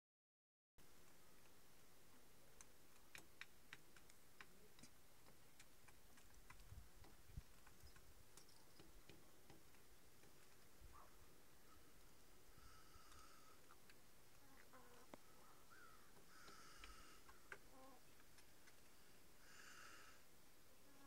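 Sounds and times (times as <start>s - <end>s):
animals eating from a dish: 0.8s - 19.2s.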